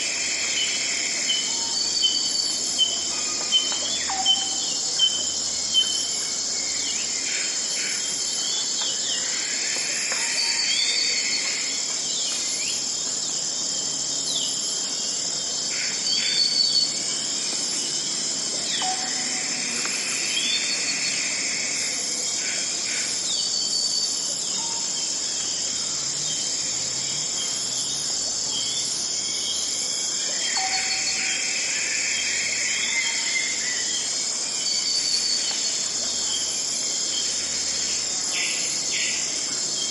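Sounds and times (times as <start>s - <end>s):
dense insect chorus: 0.0s - 39.9s.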